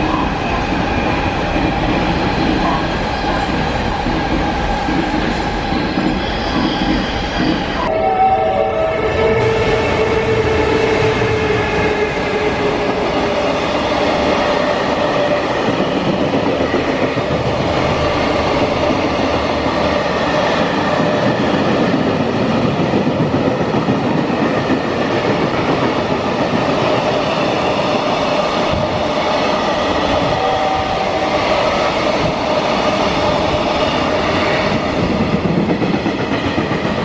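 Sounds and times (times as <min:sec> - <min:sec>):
freight train passing on rails: 0:00.0 - 0:37.0.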